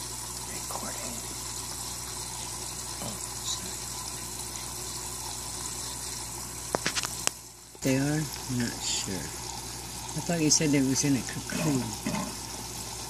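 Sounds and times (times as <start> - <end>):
low pump hum: 0.0 - 13.0
running water: 0.0 - 13.0.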